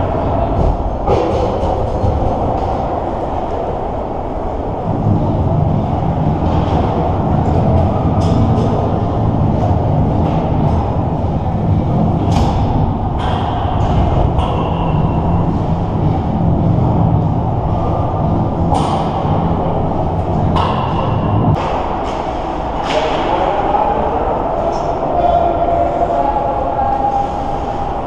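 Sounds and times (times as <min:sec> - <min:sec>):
ice arena background din: 0:00.0 - 0:28.0.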